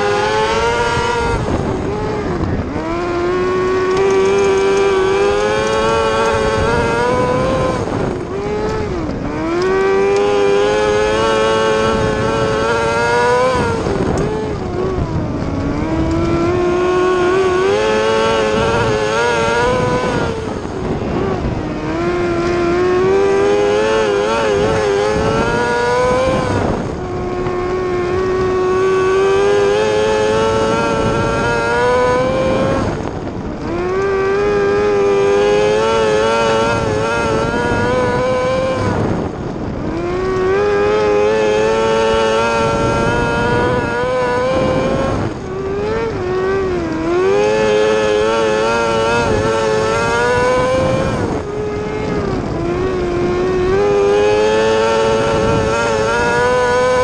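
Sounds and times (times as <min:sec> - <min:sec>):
racing motorcycle engine revving: 0:00.0 - 0:57.0.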